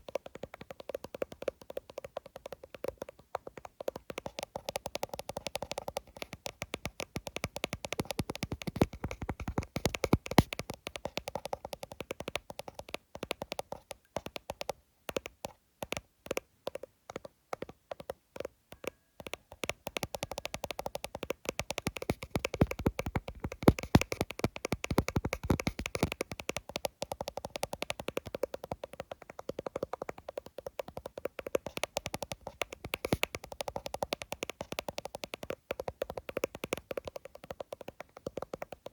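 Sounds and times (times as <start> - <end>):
fingers tapping on phone screen: 0.0 - 38.9.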